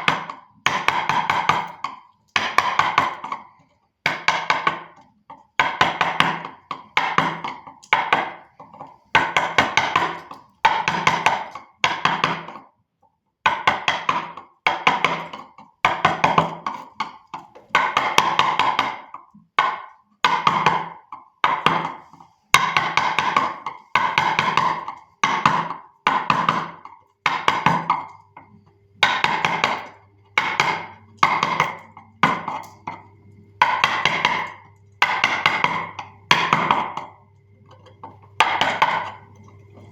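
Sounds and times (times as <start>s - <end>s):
mallet tapping chisel into wood: 0.0s - 12.6s, 13.5s - 22.0s, 22.6s - 33.0s, 33.6s - 37.2s, 38.4s - 39.3s.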